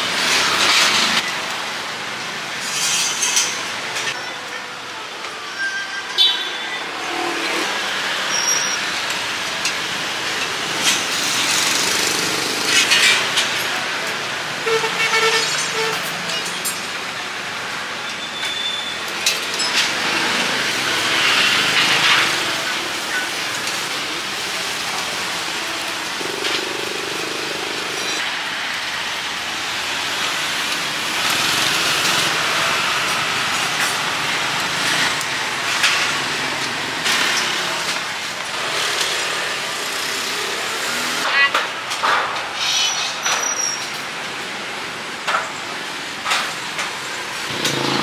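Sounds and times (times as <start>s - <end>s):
street traffic: 0.0s - 48.0s
vehicles passing: 6.1s - 48.0s.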